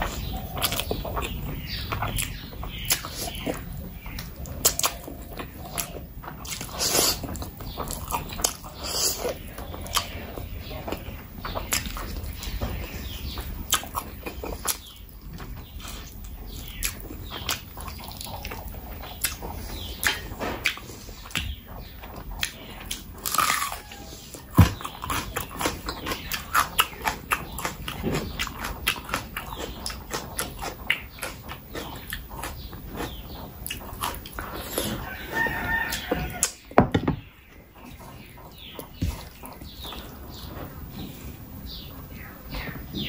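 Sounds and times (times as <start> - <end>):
wet chewing and lip-smacking: 0.0 - 36.6.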